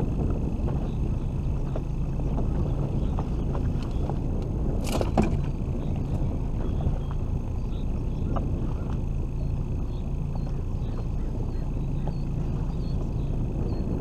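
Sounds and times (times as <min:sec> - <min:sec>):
outboard motor running: 0:00.0 - 0:14.0
water noise: 0:00.0 - 0:14.0
wind noise: 0:00.0 - 0:14.0.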